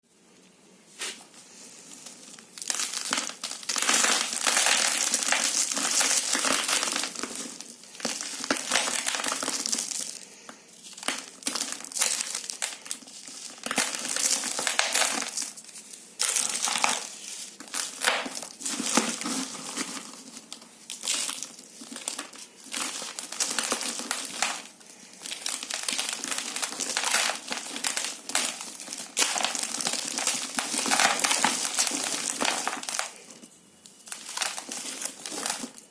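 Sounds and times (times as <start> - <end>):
hands crushing gritty material: 0.9 - 35.9.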